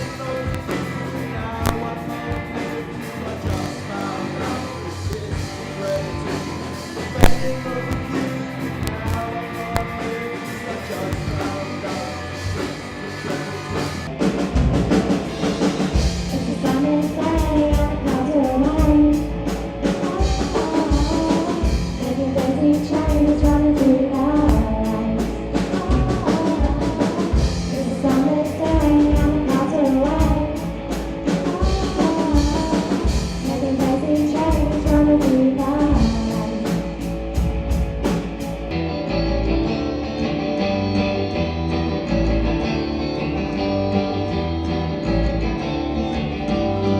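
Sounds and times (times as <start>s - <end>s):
drum kit beat: 0.0s - 45.1s
guitar: 0.0s - 46.9s
person singing: 0.0s - 46.9s.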